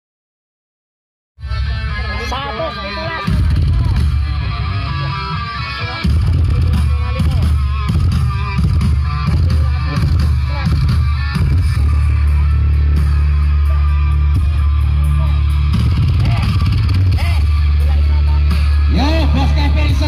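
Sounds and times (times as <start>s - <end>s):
loud guitar music: 1.4s - 20.0s
heavy deep bass: 3.0s - 20.0s.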